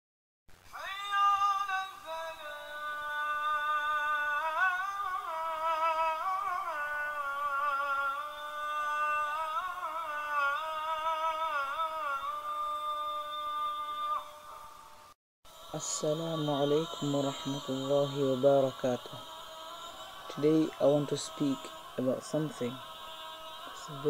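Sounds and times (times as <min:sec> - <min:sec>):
person chanting a slow melody: 0:00.7 - 0:24.0.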